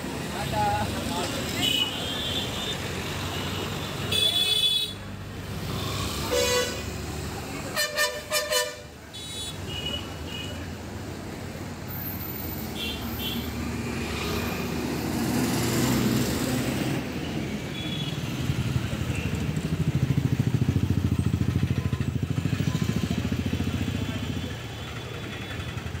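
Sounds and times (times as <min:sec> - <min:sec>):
bus and motorcycle engines passing: 0:00.0 - 0:04.4, 0:05.0 - 0:09.1, 0:10.1 - 0:26.0.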